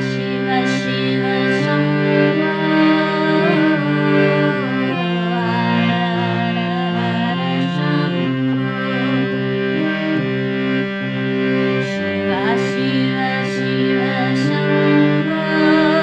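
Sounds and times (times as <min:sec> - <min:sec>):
harmonium playing held chords: 0:00.0 - 0:16.0
slow chant melody: 0:00.0 - 0:16.0.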